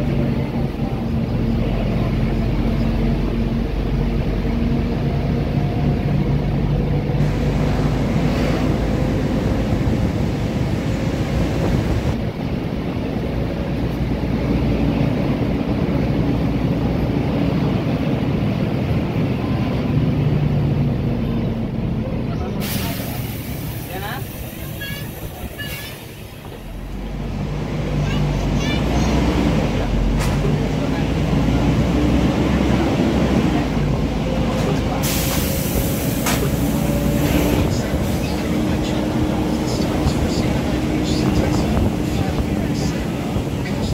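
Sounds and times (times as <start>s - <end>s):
bus engine running: 0.0s - 43.9s.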